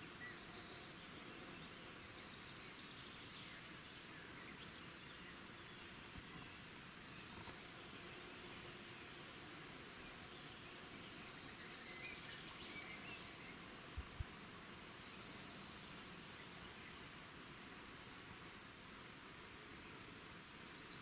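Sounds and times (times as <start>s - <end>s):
low steady hiss: 0.0s - 21.0s.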